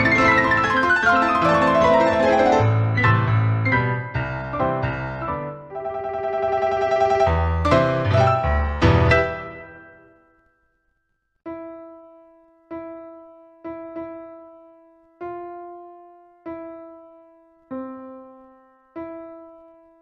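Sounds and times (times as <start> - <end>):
piano chords ringing: 0.0 - 20.0
slow piano notes: 0.0 - 20.0.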